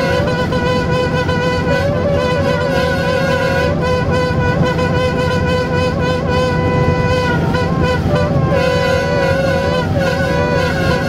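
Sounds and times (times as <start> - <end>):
diesel engine running: 0.0 - 11.0
locomotive air horn blast: 0.0 - 11.0.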